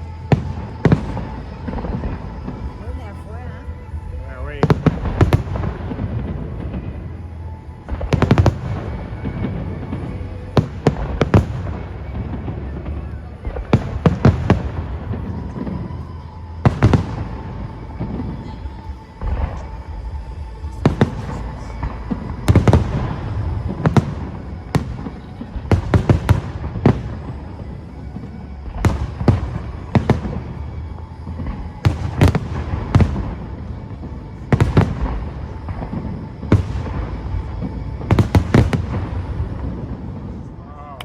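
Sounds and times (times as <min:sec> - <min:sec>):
fireworks bursting in sharp bangs: 0:00.0 - 0:40.6
music playing: 0:00.0 - 0:41.0.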